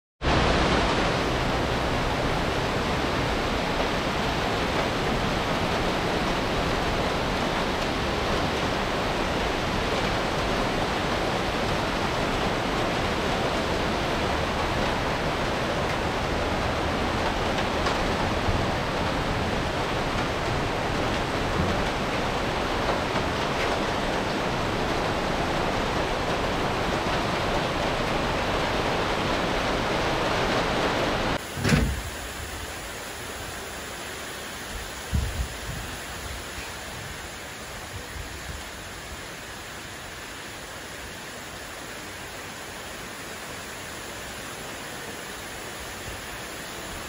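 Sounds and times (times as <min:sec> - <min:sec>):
heavy rain pouring: 0:00.2 - 0:47.0.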